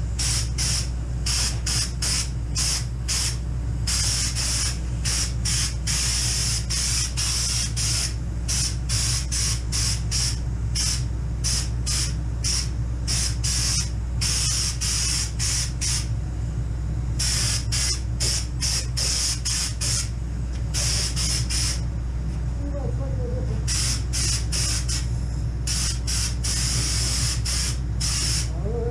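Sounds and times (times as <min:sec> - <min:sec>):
spray gun hissing: 0:00.0 - 0:16.1, 0:17.2 - 0:20.1, 0:20.7 - 0:21.8, 0:23.7 - 0:28.6
steady low hum: 0:00.0 - 0:28.9.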